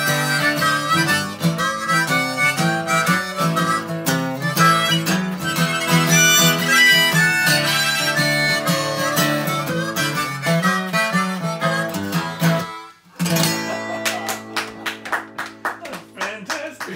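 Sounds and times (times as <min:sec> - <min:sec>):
harmonica playing blues: 0:00.0 - 0:15.4
strummed guitar: 0:00.0 - 0:16.9.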